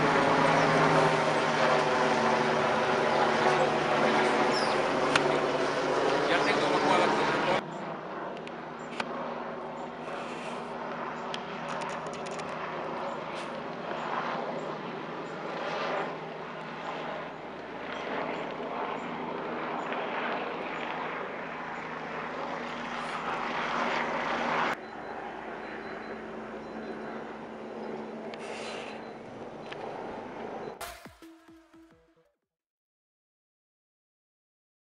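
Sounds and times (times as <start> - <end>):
aircraft engine droning: 0.0 - 32.0.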